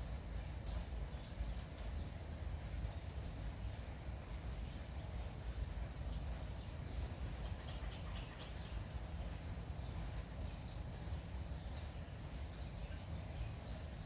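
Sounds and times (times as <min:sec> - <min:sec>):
light drizzle: 0:00.0 - 0:14.0.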